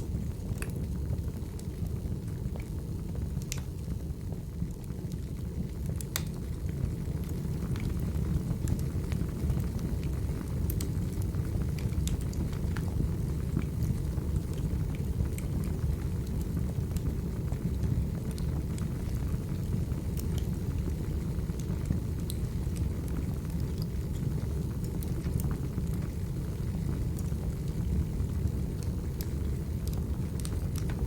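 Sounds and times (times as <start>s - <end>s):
low fire rumble: 0.0s - 31.0s
wood fire crackling and popping: 0.0s - 31.0s.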